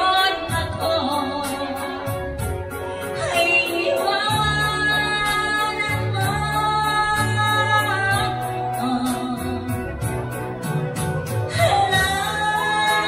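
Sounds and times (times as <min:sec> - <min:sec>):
backing music with bass and beat: 0:00.0 - 0:13.0.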